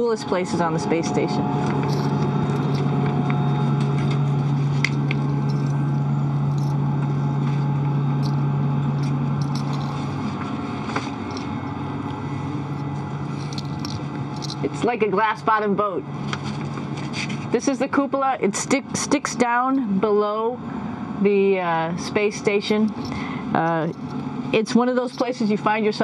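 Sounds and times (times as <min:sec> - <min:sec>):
low hum: 0:00.0 - 0:26.0
ventilation fans droning: 0:00.0 - 0:26.0.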